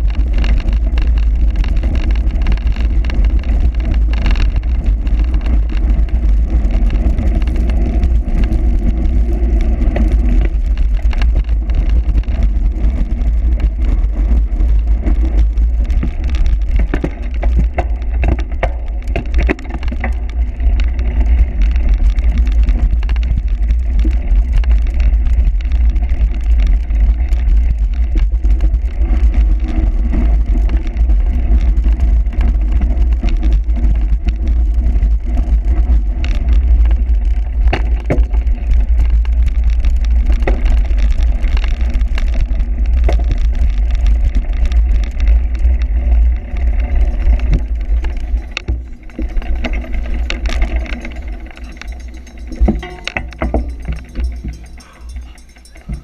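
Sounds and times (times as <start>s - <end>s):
bike knocking and rattling: 0.0s - 56.0s
wind buffeting microphone: 0.0s - 56.0s.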